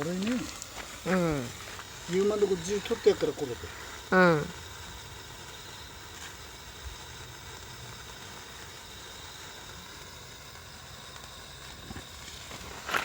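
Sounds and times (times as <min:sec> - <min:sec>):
even hiss: 0:00.0 - 0:13.0.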